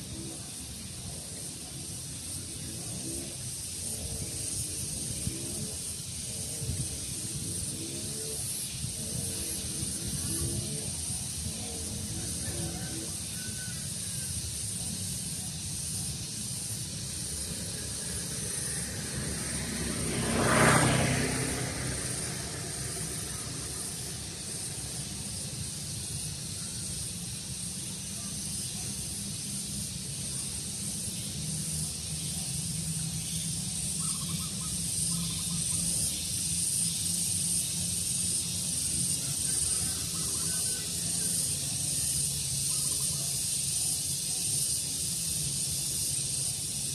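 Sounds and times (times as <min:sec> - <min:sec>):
steady breeze: 0:00.0 - 0:46.9.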